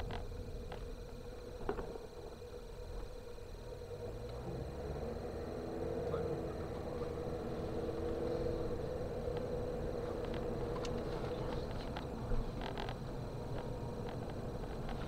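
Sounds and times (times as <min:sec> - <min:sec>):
car engine droning: 0:00.0 - 0:15.0
road rumble from tyres: 0:00.0 - 0:15.0.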